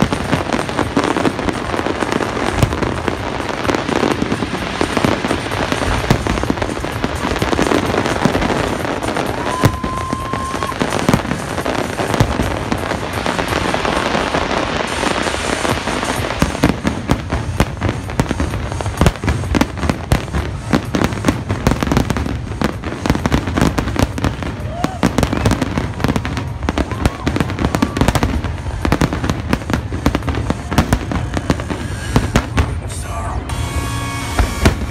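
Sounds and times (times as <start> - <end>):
firework whistle: 0.0 - 34.9
fireworks bursting and crackling: 0.0 - 34.9.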